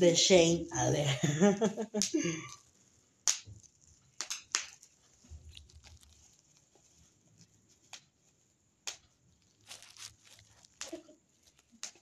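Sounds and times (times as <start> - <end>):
bubble wrap popping: 1.8 - 12.0.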